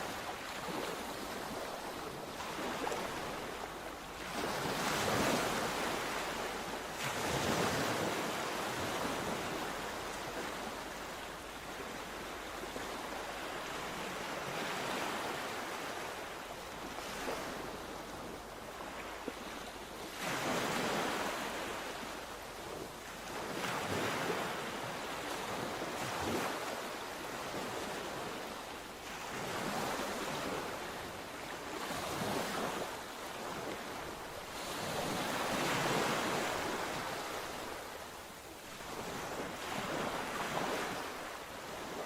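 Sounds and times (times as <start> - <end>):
sea waves breaking on shore: 0.0 - 42.0.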